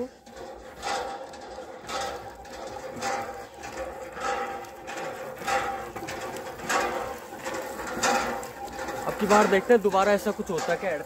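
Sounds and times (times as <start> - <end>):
hand pump creaking: 0.0 - 11.0.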